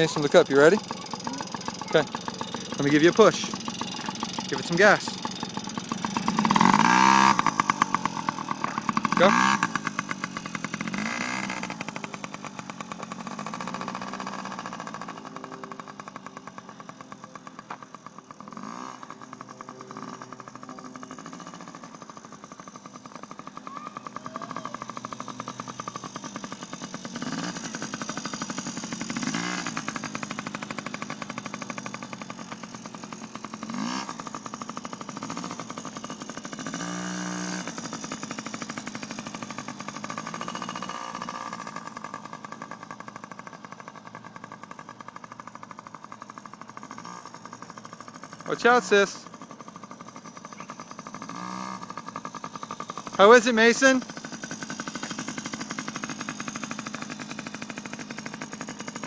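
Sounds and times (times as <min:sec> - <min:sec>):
small motorcycle engine revving: 0:00.0 - 0:59.0.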